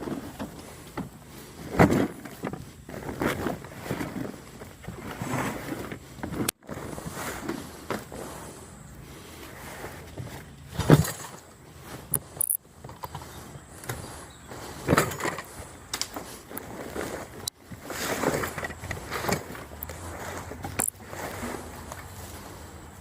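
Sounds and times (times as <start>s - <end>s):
junk thumping and clattering: 0.0s - 8.2s, 10.1s - 20.9s
rustling: 0.0s - 23.0s.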